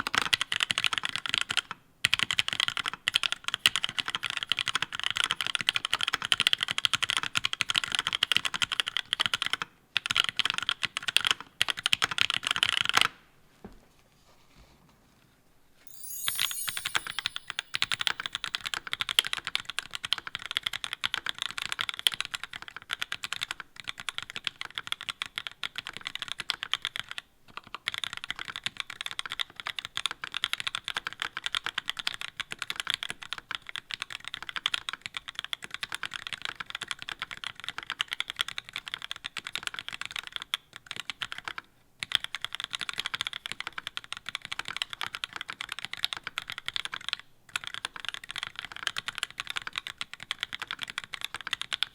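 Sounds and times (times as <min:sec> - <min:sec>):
fast typing on mechanical keyboard: 0:00.0 - 0:12.9, 0:20.1 - 0:51.9.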